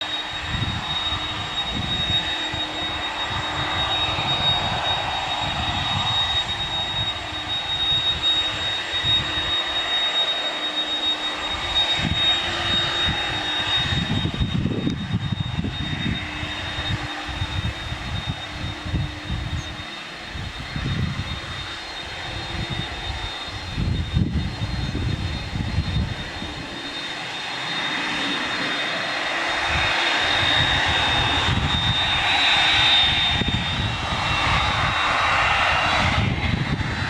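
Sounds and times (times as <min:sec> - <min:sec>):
wind buffeting microphone: 0:00.0 - 0:10.2, 0:11.2 - 0:37.0
jet engines whining: 0:00.0 - 0:37.0.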